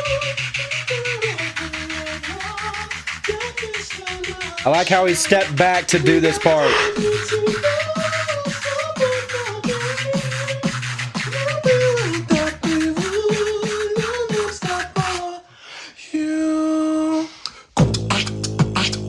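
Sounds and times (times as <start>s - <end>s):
low beatboxed bass tone: 0.0s - 15.2s, 17.8s - 19.0s
beatboxed kick and snare: 0.0s - 15.3s, 17.5s - 19.0s
sung vocal melody: 0.0s - 15.3s, 17.8s - 19.0s.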